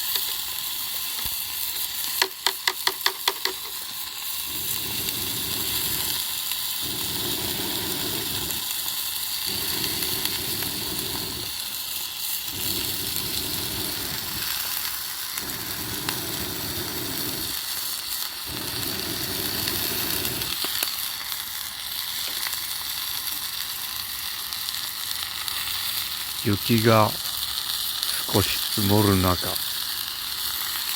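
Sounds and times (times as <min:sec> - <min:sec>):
meat sizzling in a pan: 0:00.0 - 0:30.9.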